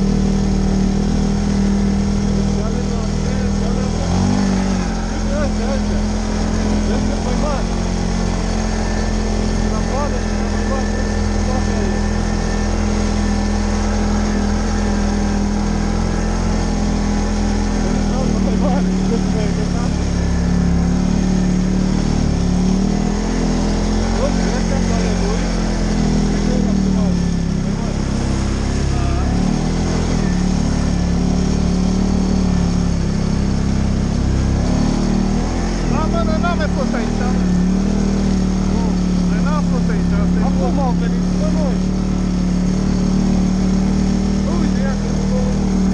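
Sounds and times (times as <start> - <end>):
atv engine droning: 0.0 - 45.9.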